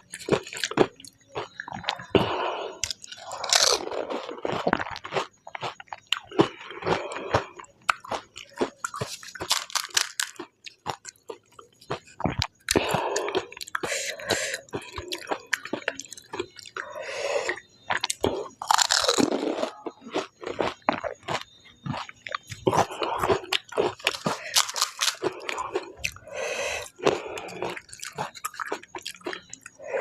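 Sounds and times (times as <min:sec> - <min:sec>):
crunchy food being chewed: 0:00.0 - 0:30.0.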